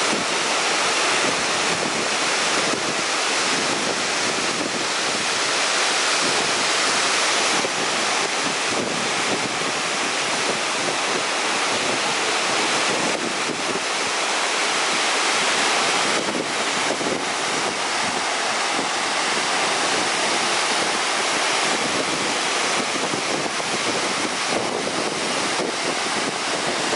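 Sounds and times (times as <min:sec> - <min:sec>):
waterfall crashing onto rocks: 0:00.0 - 0:26.9.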